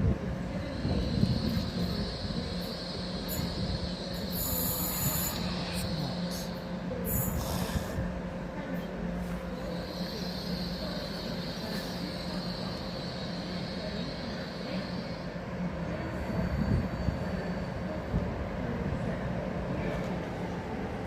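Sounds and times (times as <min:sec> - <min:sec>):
train engine drone: 0:00.0 - 0:21.0.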